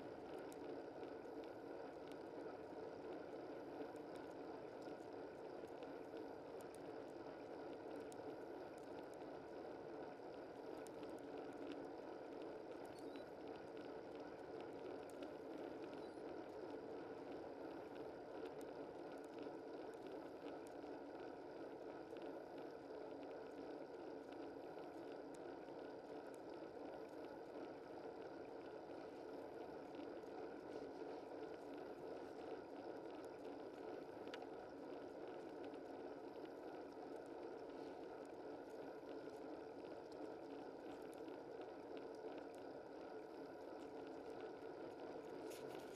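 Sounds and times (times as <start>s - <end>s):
faint ticks: 0.0s - 45.9s.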